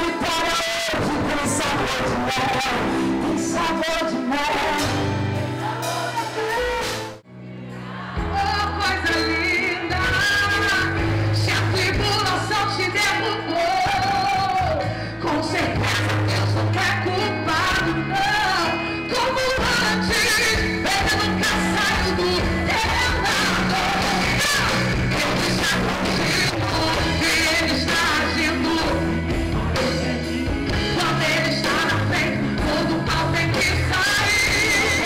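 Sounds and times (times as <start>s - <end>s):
live gospel band music: 0.0s - 35.0s
person singing: 0.0s - 35.0s.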